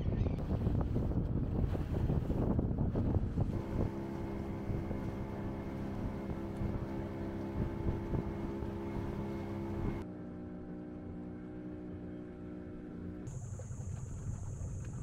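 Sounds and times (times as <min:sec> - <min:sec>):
water and wind noise: 0:00.0 - 0:15.0
outboard motor droning: 0:00.4 - 0:15.0.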